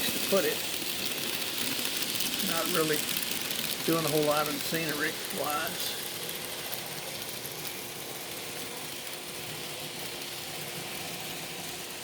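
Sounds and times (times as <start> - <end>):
model train motor hum: 0.0 - 12.0
wheels rushing on rails: 0.0 - 12.0.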